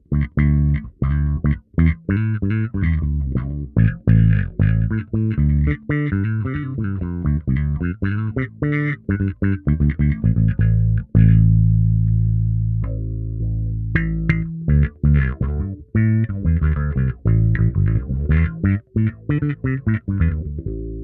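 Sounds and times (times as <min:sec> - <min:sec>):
electric bass with auto-wah: 0:00.0 - 0:21.0.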